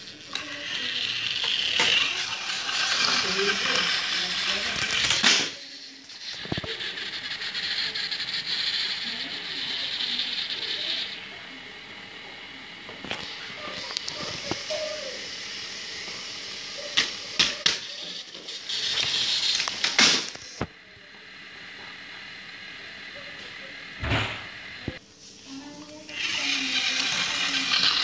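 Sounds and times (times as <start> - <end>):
toy train motor whirring: 0.0 - 20.6, 21.2 - 28.0.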